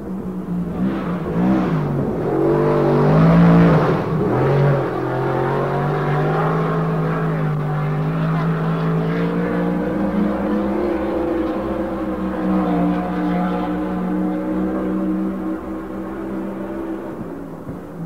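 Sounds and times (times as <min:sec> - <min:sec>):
race car engine revving: 0:00.1 - 0:18.0.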